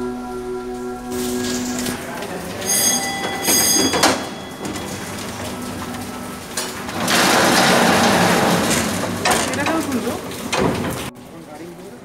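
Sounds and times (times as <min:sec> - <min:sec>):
mine cage rumble: 0:00.0 - 0:11.1
metal clanks: 0:01.4 - 0:11.1.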